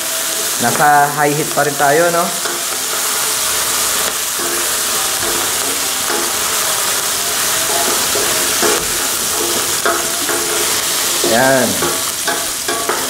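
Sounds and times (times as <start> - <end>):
food sizzling in hot oil: 0.0 - 13.0
wooden spatula scraping a wok: 0.0 - 13.0.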